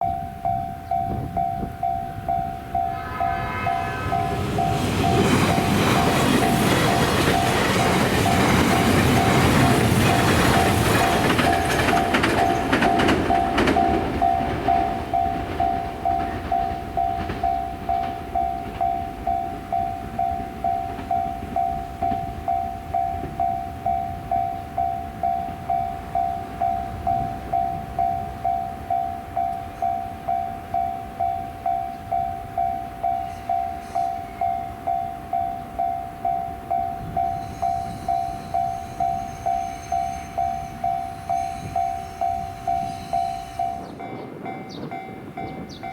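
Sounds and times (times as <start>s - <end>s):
level-crossing alarm clanging: 0.0s - 45.9s
train rumble: 0.0s - 45.9s.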